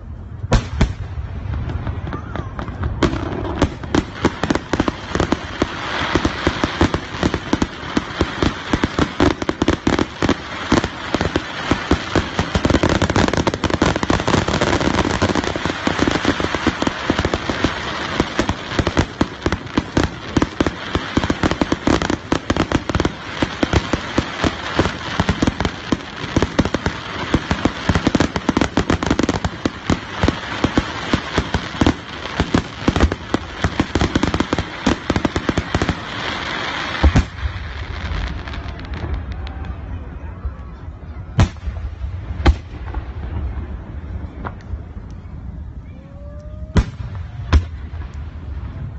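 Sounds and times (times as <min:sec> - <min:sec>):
fireworks bangs and crackling pops: 0:00.4 - 0:40.0, 0:41.3 - 0:45.3, 0:46.5 - 0:48.9.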